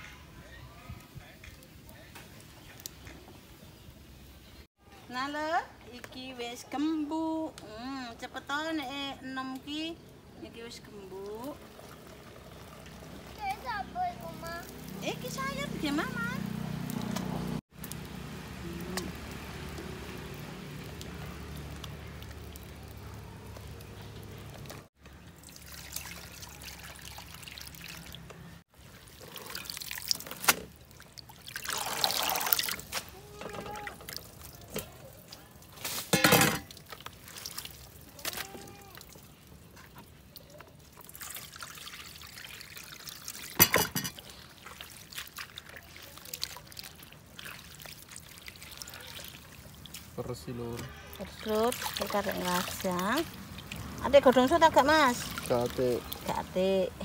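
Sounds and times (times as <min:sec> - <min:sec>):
water splashing in a bowl: 0:10.8 - 0:57.0.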